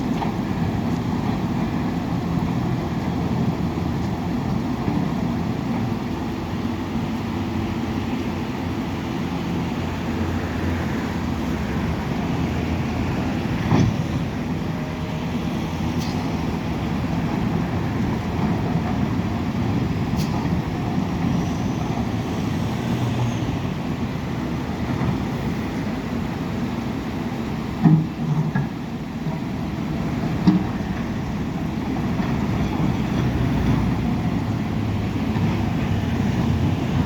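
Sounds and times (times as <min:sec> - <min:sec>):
heavy diesel machines running: 0:00.0 - 0:37.0.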